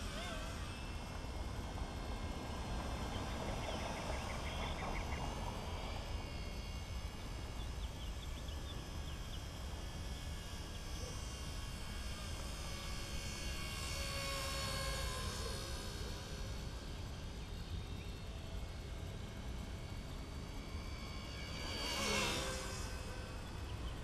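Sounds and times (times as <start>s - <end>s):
toy helicopter motor whine: 0.0s - 24.0s.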